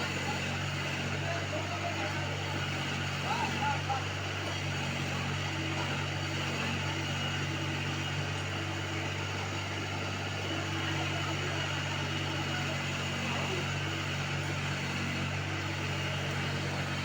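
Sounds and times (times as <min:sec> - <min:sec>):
tractor engine running steadily: 0:00.0 - 0:17.0.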